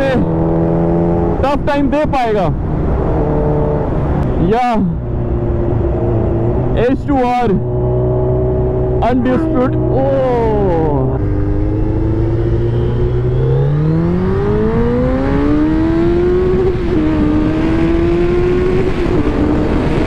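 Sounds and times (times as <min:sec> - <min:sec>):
motorcycle engine accelerating: 0:00.0 - 0:01.8, 0:02.6 - 0:20.0.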